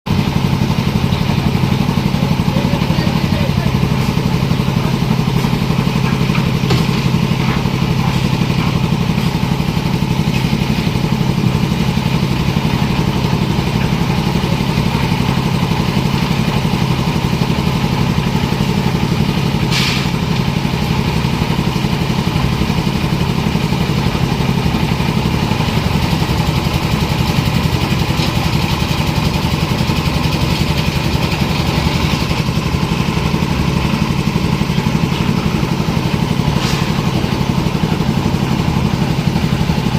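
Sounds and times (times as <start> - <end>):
machine engines running: 0.1 - 39.9.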